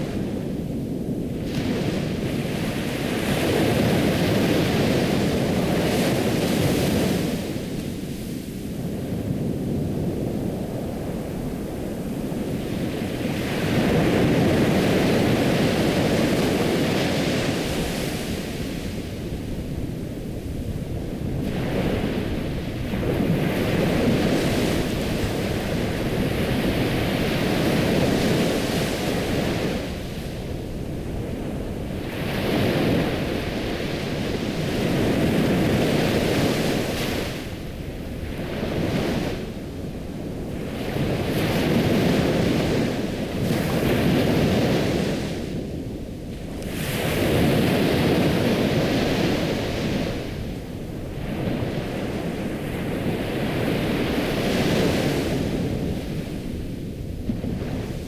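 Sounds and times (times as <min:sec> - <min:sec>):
ocean waves washing in: 0:00.0 - 0:58.0.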